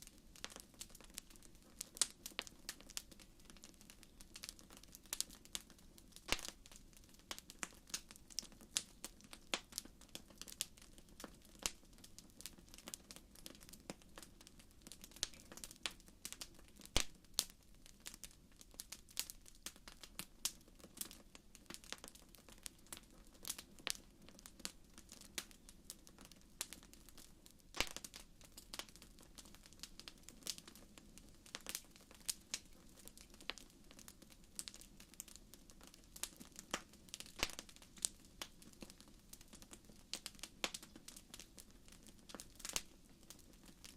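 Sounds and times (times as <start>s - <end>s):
faint low hiss: 0.0s - 43.9s
wood fire crackling and popping: 0.0s - 43.9s.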